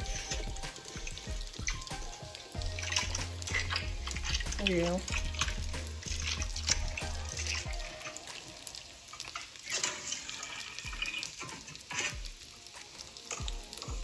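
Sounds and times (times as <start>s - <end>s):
faint music: 0.0s - 14.0s
water running and splashing: 0.0s - 14.0s.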